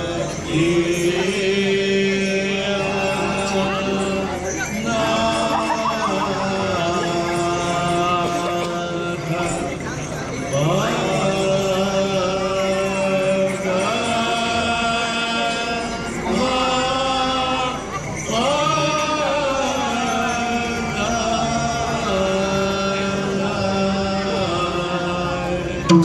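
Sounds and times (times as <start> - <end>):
devotional chanting: 0.0 - 26.0.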